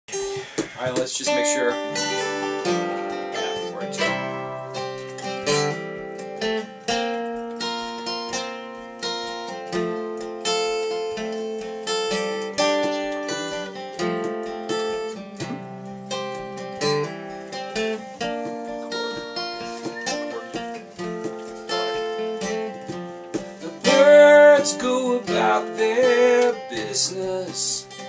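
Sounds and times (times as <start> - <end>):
acoustic guitar strumming: 0.1 - 28.0.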